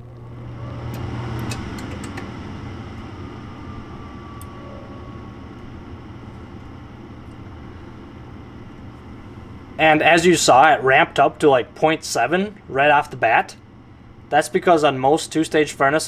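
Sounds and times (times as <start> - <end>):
faint falling whine: 0.0 - 16.0
furnace inducer motor whoosh: 0.0 - 16.0
low steady hum: 0.0 - 16.0.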